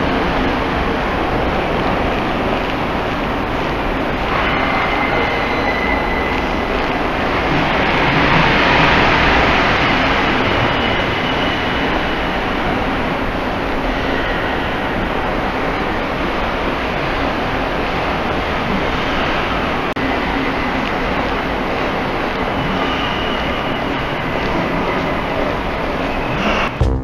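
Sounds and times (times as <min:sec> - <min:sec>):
rushing roar in tunnel: 0:00.0 - 0:26.8.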